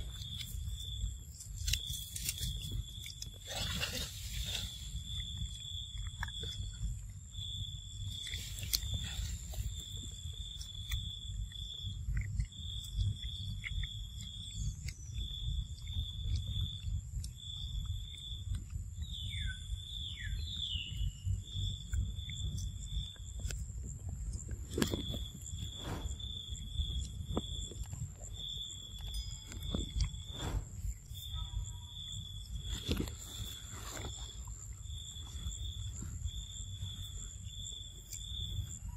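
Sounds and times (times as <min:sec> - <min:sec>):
insect droning: 0:00.0 - 0:38.9
low rumble on microphone: 0:02.4 - 0:38.9.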